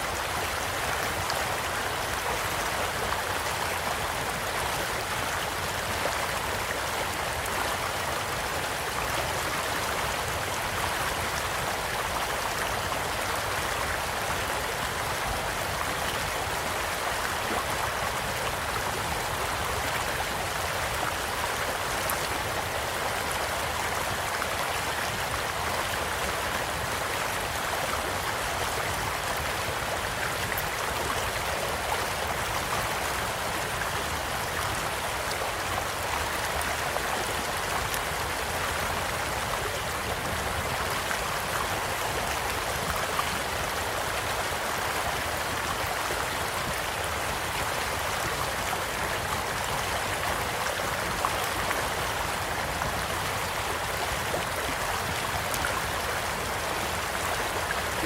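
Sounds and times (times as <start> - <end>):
small stream flowing: 0.0 - 58.0.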